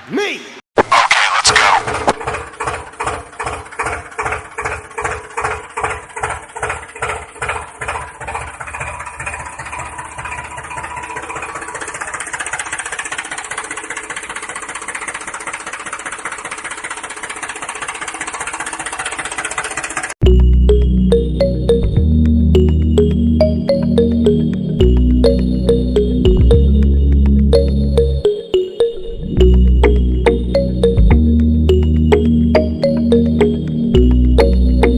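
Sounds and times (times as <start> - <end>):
tractor engine chugging: 1.6 - 28.3, 29.4 - 34.9.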